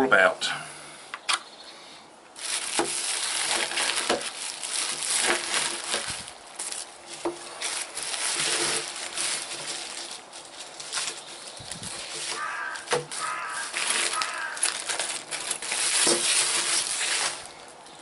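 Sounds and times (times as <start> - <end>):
plastic and paper wrapping crinkling: 2.4 - 18.0.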